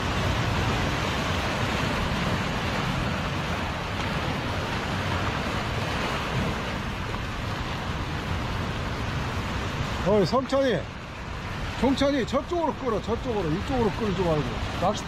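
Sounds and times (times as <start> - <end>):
waves washing over rocks: 0.0 - 15.0.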